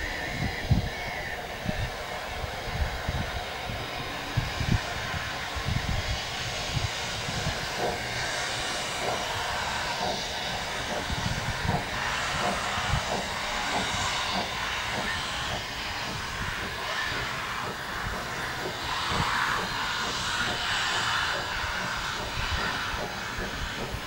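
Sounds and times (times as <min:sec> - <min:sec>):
steam hiss: 0:00.0 - 0:24.0
steam locomotive exhaust beats: 0:00.0 - 0:24.0
wind buffeting microphone: 0:00.1 - 0:20.7.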